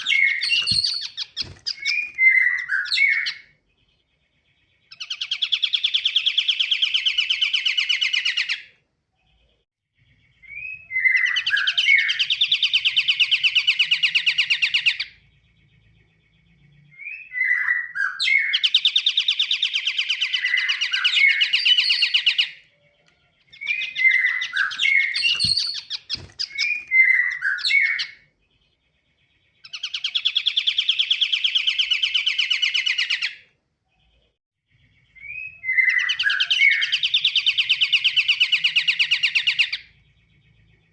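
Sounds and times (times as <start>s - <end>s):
bird singing buzzy trills: 0.0s - 8.6s, 9.2s - 40.9s.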